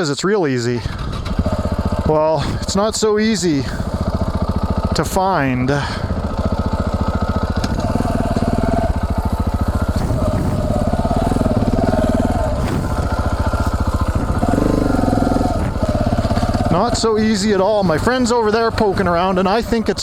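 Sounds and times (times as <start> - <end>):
motorcycle engine idling: 0.6 - 20.0.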